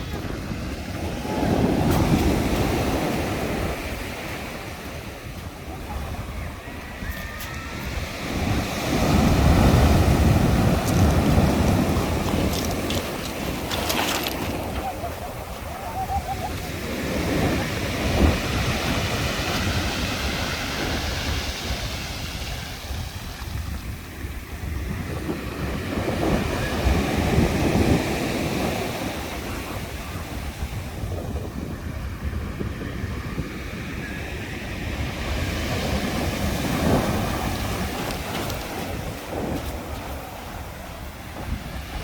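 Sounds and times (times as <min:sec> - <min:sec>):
sea waves breaking on shore: 0:00.0 - 0:42.0
wind rumbling on microphone: 0:00.0 - 0:42.0.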